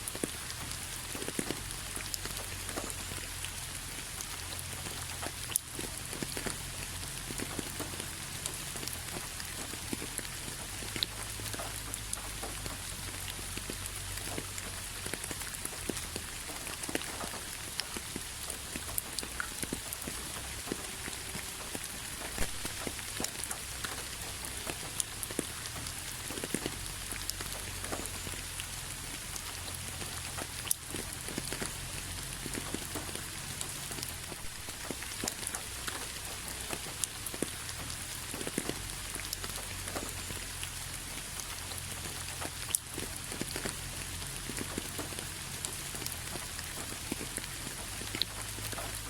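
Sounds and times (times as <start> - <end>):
rain pattering on hard surface: 0.0 - 49.0.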